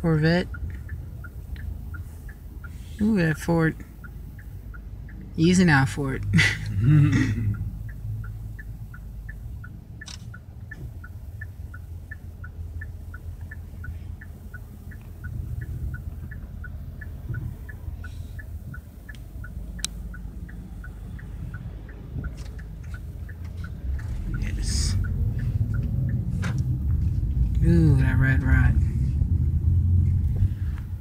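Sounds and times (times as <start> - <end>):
car engine rumble: 0.0 - 31.0
road noise: 0.0 - 31.0
turn signal ticking: 0.0 - 31.0.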